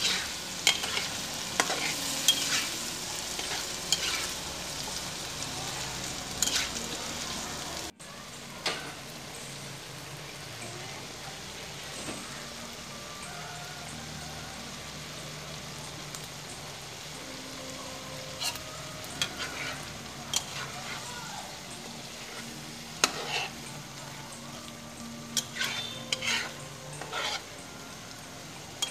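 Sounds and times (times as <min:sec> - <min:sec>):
shrimp sizzling in a frying pan: 0:00.0 - 0:28.9.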